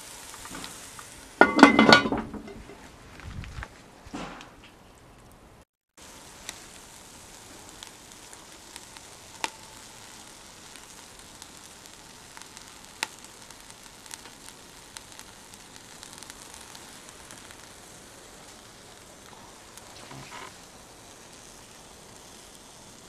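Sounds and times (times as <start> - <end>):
meat sizzling in a pot: 0.0 - 2.6, 5.9 - 23.0
sharp crackles and pops: 0.0 - 23.0.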